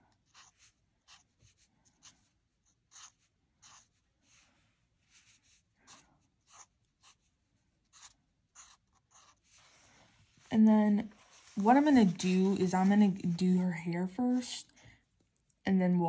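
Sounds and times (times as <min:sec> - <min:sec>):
marker strokes on paper: 0:00.1 - 0:13.7.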